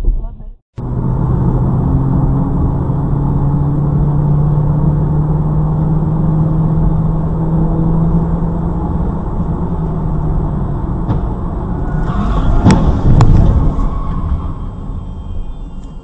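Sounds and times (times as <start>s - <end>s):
tyre road rumble: 0.0s - 16.0s
car engine drone: 0.2s - 16.0s.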